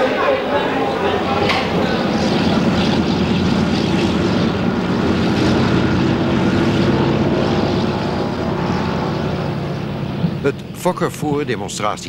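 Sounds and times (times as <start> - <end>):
propeller aircraft engines running: 0.0 - 12.0.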